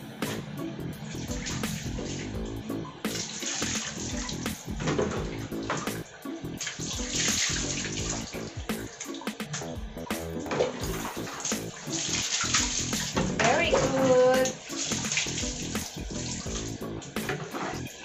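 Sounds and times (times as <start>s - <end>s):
background music: 0.0s - 18.0s
water splashing on dog and tiles: 1.1s - 2.5s, 3.1s - 9.8s, 10.4s - 18.0s.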